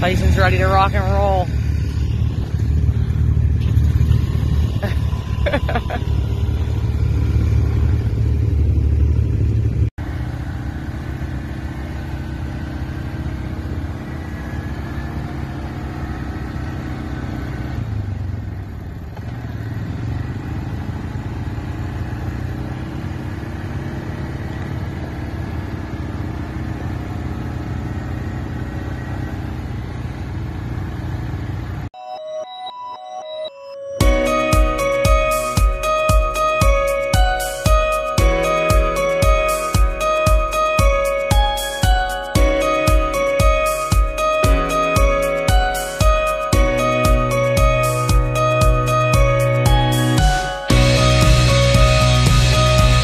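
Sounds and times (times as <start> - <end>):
dirt bike engine running: 0.0 - 31.9, 34.0 - 53.0.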